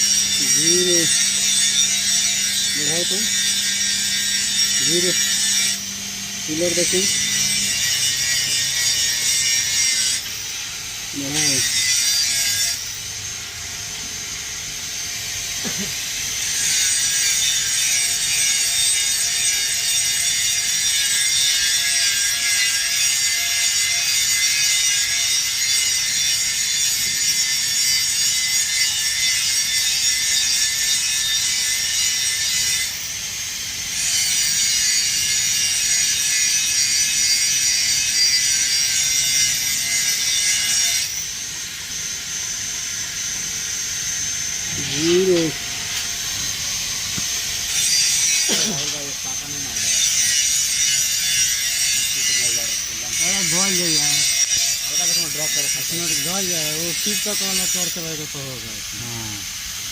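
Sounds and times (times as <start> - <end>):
welding arc hissing: 0.0 - 59.9.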